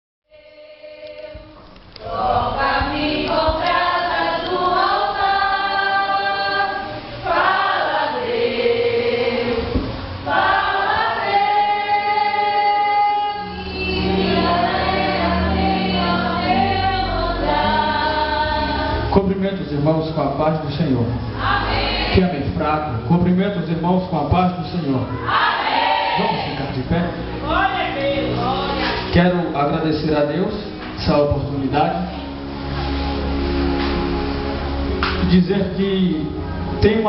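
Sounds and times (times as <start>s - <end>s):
group singing a hymn: 0.3s - 19.6s, 20.9s - 22.9s, 24.9s - 35.4s
low musical accompaniment: 0.3s - 37.0s.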